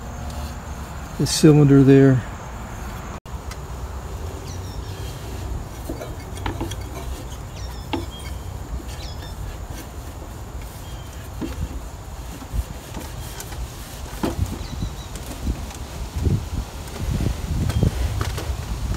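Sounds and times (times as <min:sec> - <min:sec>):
outdoor background noise: 0:00.0 - 0:18.9.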